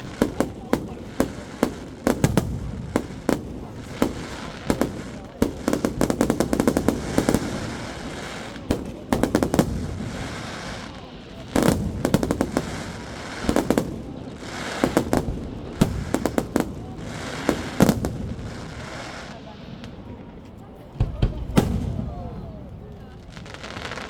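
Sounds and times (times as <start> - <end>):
fireworks crackling bangs: 0.0 - 24.0
fireworks rumbling: 0.0 - 24.0.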